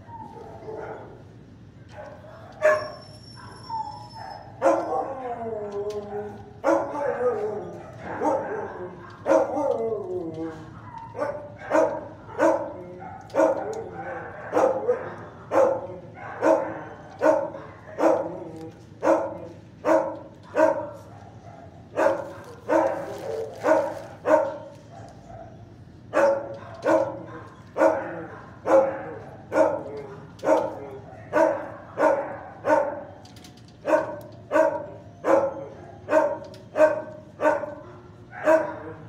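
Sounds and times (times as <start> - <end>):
dog barking in echoing room: 0.0 - 5.1, 6.1 - 9.9, 10.5 - 39.0.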